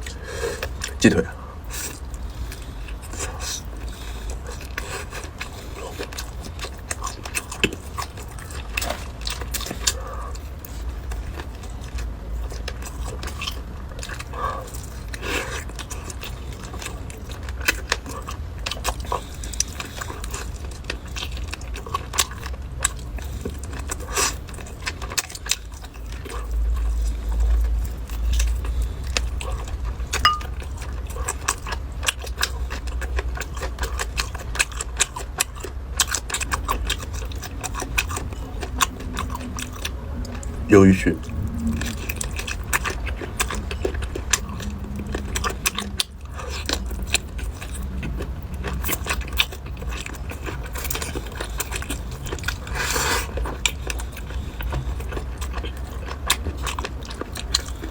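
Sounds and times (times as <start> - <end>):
chewing a chicken leg: 0.0 - 57.9
low steady hum: 0.0 - 57.9.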